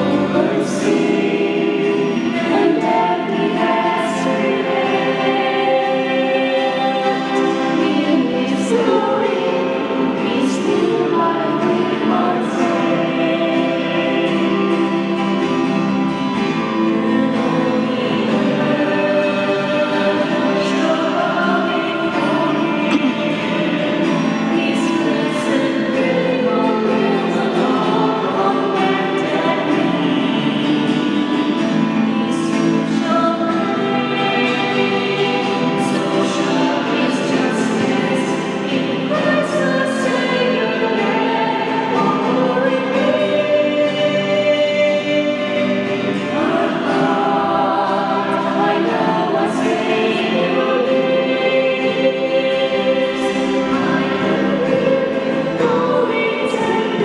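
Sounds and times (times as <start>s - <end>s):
woman singing into microphone: 0.0s - 15.6s, 17.0s - 57.0s
acoustic guitar: 0.0s - 57.0s.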